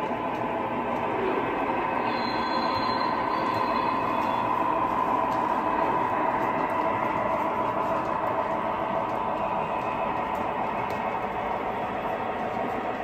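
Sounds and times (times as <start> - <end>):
high motor whine: 0.0 - 13.0
model train rolling on track: 0.0 - 13.0.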